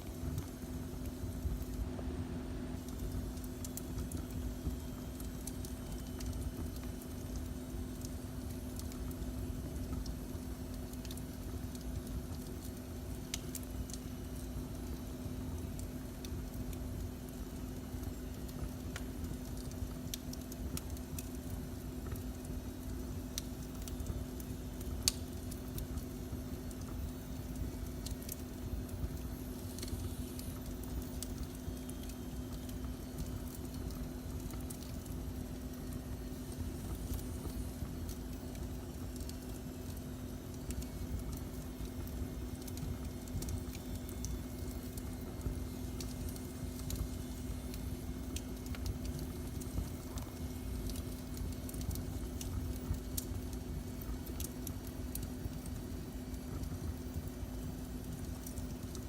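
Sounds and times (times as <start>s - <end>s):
steady hum: 0.0s - 59.0s
wood fire crackling: 0.0s - 59.0s.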